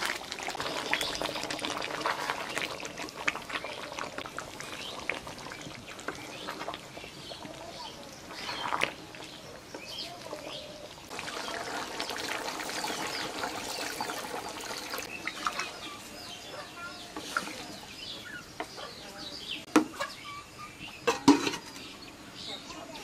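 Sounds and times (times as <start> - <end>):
curry bubbling in metal pot: 0.0 - 18.7
birds chirping: 0.6 - 23.0.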